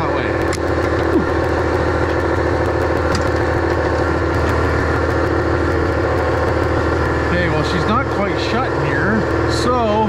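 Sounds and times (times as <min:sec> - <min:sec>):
compressor running: 0:00.0 - 0:10.0.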